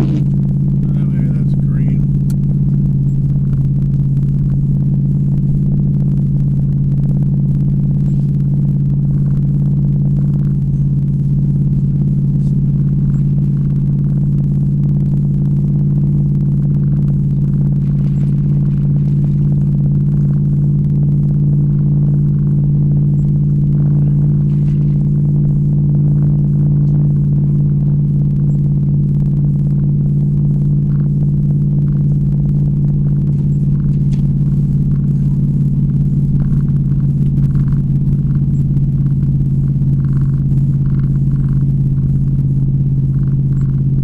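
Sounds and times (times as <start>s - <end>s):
truck engine low drone: 0.0s - 44.0s.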